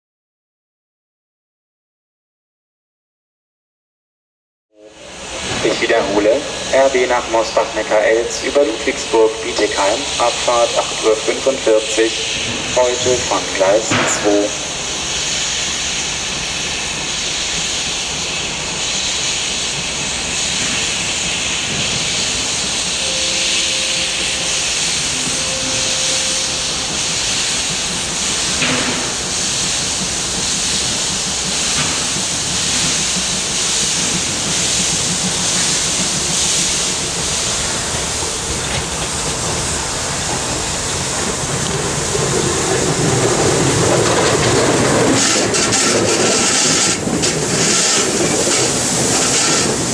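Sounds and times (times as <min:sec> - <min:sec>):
steam locomotive venting steam: 0:04.8 - 0:49.9.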